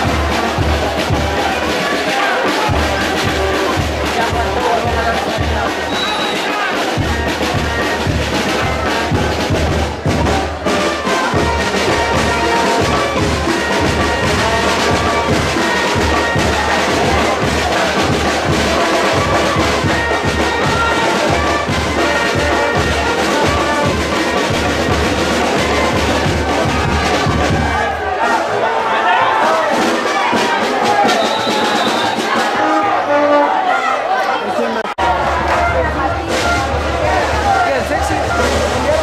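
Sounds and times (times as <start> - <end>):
brass band music: 0.0 - 39.0
drums: 0.0 - 39.0.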